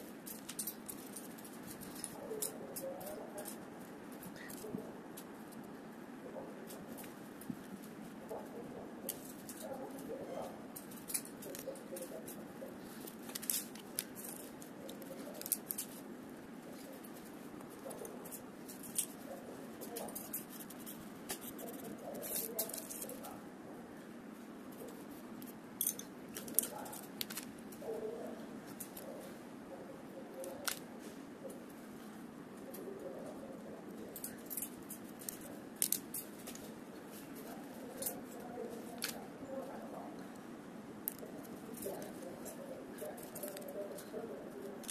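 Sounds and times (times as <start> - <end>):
faint room noise: 0.0 - 44.9
low background hum: 0.0 - 44.9.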